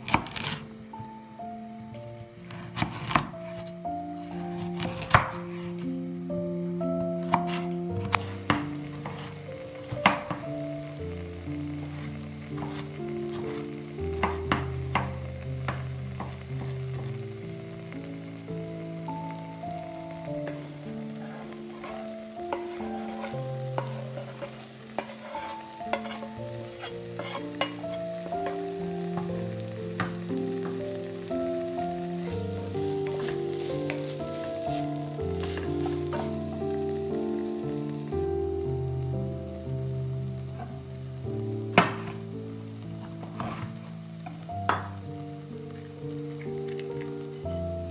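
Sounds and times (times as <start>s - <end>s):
onion sizzling in a pot: 0.0s - 47.9s
soft background music: 0.0s - 47.9s.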